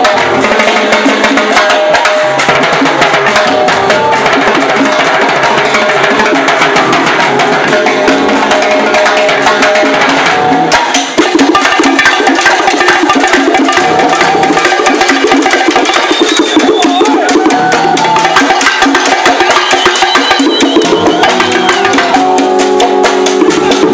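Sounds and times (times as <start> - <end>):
bongos: 0.0 - 23.9
cymbals: 0.0 - 23.9
salsa band playing: 0.0 - 23.9.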